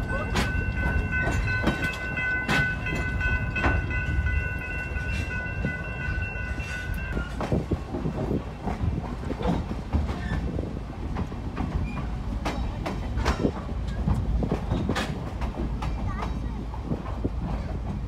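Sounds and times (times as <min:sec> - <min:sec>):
low rumble of moving train cars: 0:00.0 - 0:18.0
wheels clacking over rail joints: 0:00.0 - 0:18.0.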